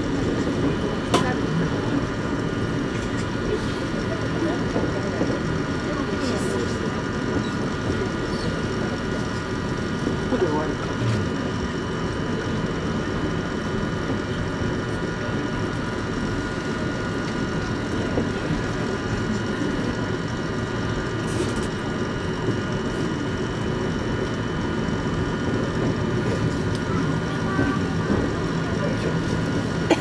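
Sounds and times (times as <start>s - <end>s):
electric motor hum: 0.0s - 30.0s
train wheels rumbling on track: 0.0s - 30.0s.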